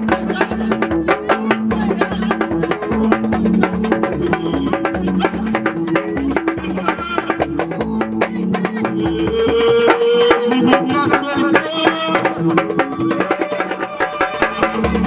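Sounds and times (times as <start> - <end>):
hand drums beating fast: 0.0 - 15.0
held melody: 0.0 - 15.0.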